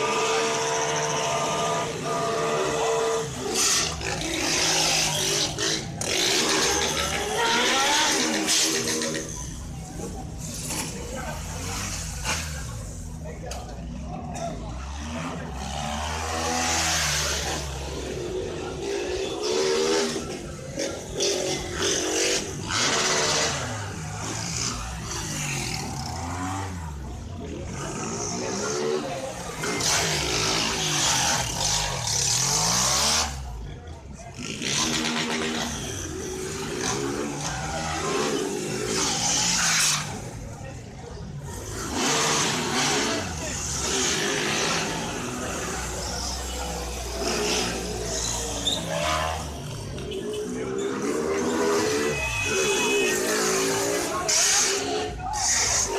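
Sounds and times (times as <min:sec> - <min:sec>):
vehicle engine revving: 0:00.0 - 0:55.9.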